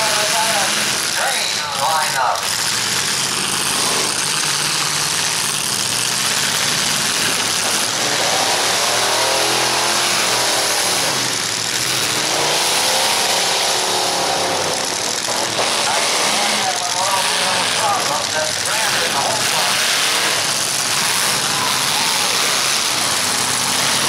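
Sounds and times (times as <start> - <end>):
truck engines revving: 0.0 - 24.0.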